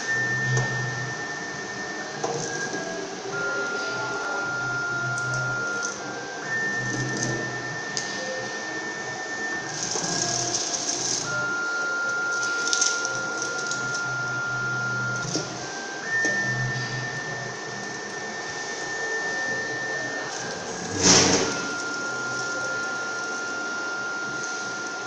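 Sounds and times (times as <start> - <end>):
cable stripping machine motor whine: 0.0 - 25.0.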